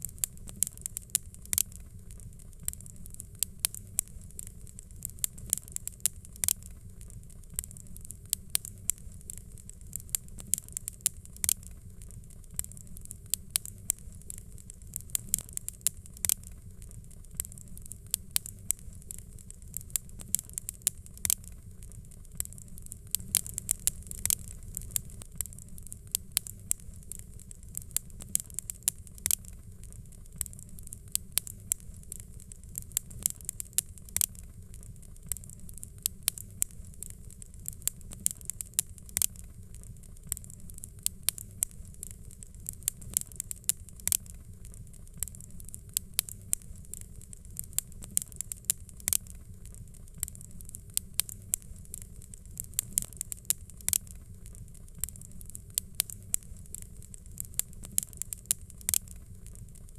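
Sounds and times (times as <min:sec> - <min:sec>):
faint hiss: 0:00.0 - 0:59.9
fire popping and snapping: 0:00.0 - 0:59.9
low rumble of fire: 0:00.0 - 0:59.9.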